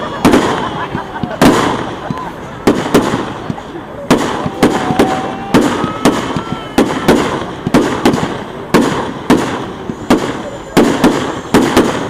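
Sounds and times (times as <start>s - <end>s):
faint firework whistling: 0.0s - 12.0s
fireworks shells bursting: 0.0s - 12.0s.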